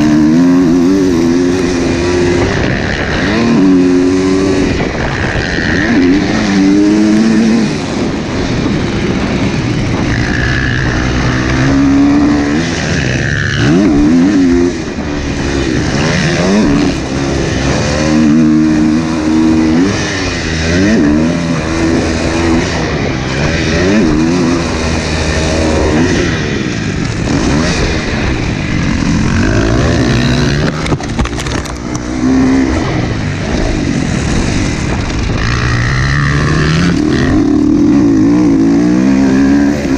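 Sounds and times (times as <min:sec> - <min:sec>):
motocross bike engine revving: 0:00.0 - 0:39.9
wind noise on microphone: 0:00.0 - 0:39.9.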